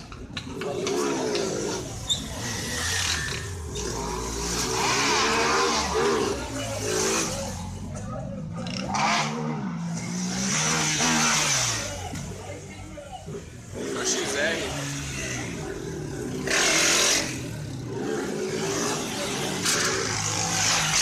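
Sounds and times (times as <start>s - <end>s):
crowd noise: 0.0s - 21.0s
vehicle engines revving: 0.0s - 21.0s.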